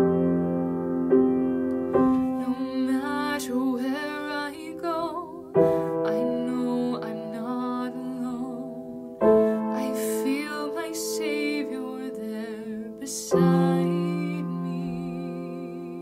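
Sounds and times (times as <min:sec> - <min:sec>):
slow piano chords: 0:00.0 - 0:16.0
woman singing: 0:02.0 - 0:16.0.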